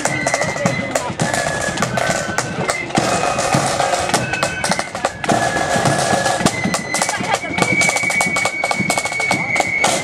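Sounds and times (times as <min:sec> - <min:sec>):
flutes playing a tune: 0:00.0 - 0:10.0
side drums: 0:00.0 - 0:10.0.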